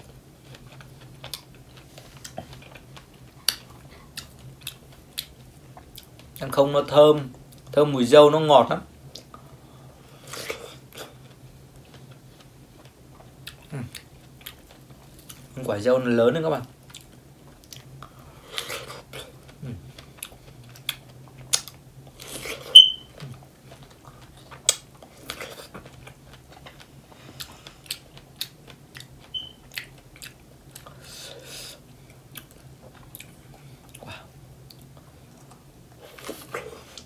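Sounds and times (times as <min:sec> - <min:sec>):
person chewing strawberry: 0:00.0 - 0:06.4, 0:10.2 - 0:15.6, 0:16.8 - 0:37.0
faint steady hum: 0:00.0 - 0:37.0.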